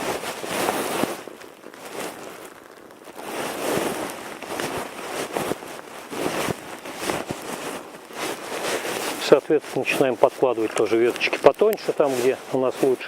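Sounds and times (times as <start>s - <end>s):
fire crackling and popping: 0.0s - 13.0s
fire hissing: 0.0s - 13.0s.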